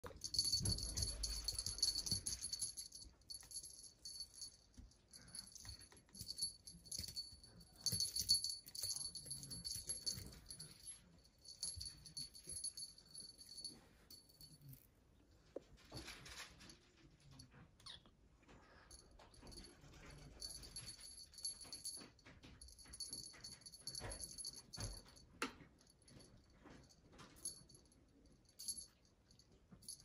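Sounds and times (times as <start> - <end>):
cat toy bell jingling: 0.0 - 14.8, 18.7 - 30.0.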